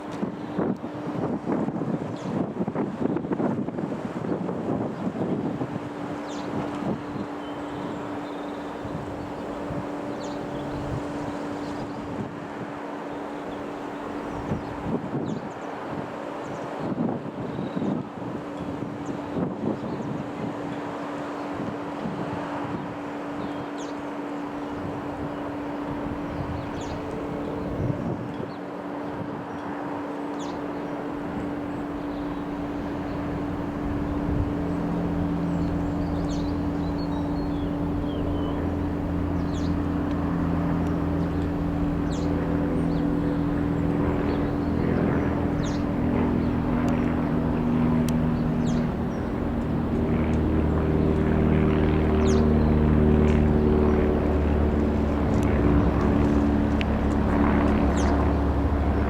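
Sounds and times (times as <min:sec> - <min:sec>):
piston aircraft engine and propeller: 0:00.0 - 0:59.0.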